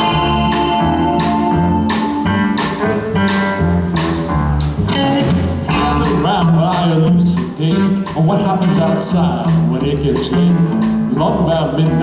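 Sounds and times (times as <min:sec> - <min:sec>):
swing band playing: 0:00.0 - 0:12.0.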